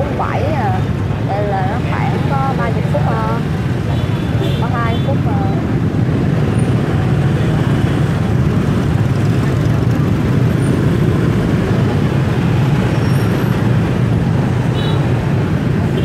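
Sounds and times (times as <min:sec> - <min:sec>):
motorbike traffic drone: 0:00.0 - 0:16.0.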